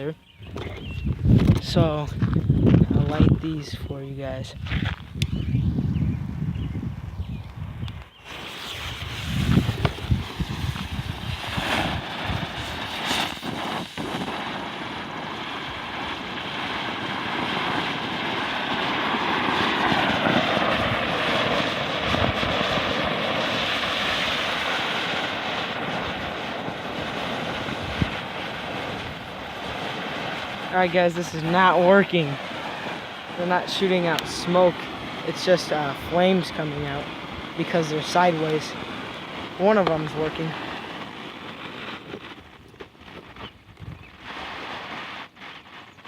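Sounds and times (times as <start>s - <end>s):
smoke crackers hissing: 8.0s - 46.0s.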